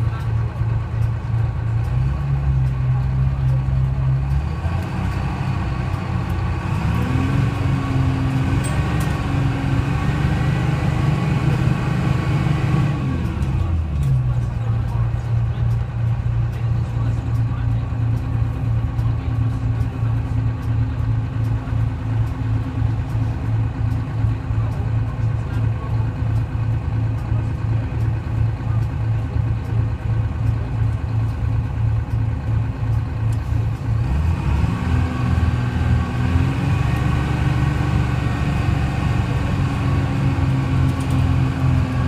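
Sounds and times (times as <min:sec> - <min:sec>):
bus diesel engine idling and revving: 0:00.0 - 0:42.0.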